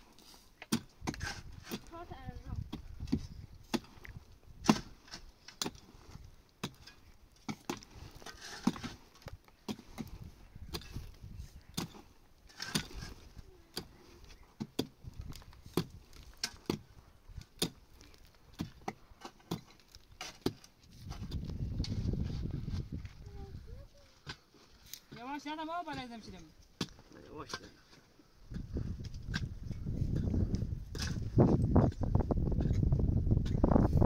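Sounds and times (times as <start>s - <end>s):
soil scraping: 0.0s - 34.0s
pickaxes striking stony earth: 0.6s - 23.1s, 24.2s - 34.0s.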